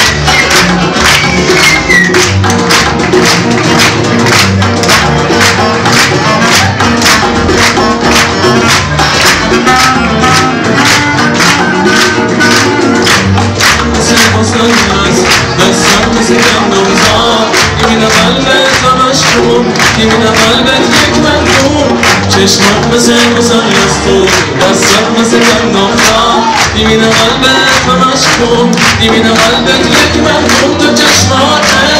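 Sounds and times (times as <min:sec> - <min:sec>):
live band playing: 0:00.0 - 0:31.9
percussion beat: 0:00.0 - 0:31.9.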